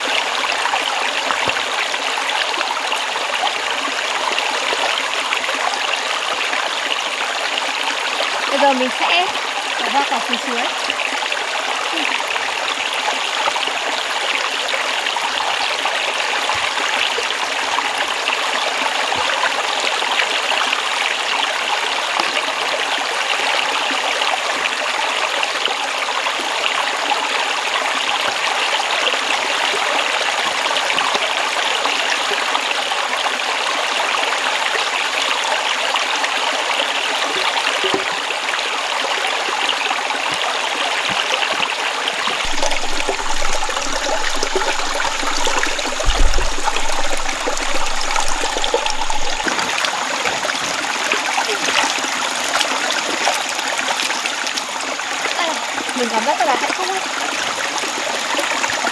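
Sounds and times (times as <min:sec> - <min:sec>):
stream flowing: 0:00.0 - 0:58.9.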